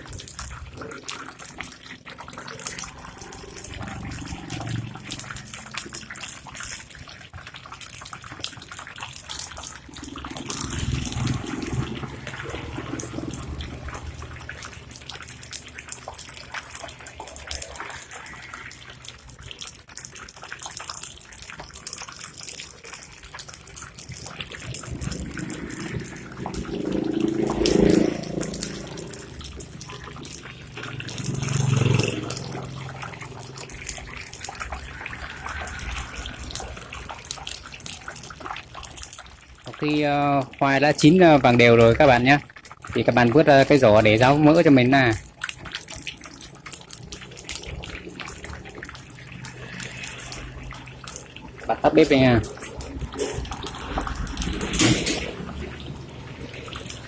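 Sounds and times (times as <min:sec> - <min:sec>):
hot oil sizzling: 0:00.0 - 0:57.0.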